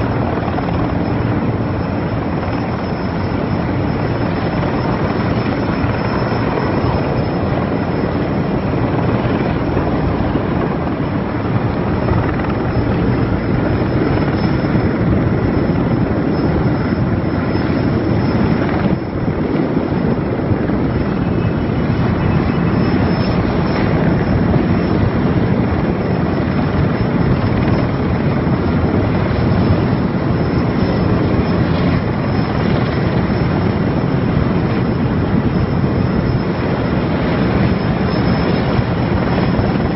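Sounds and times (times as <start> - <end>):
helicopter rotor and turbines: 0.0 - 39.9.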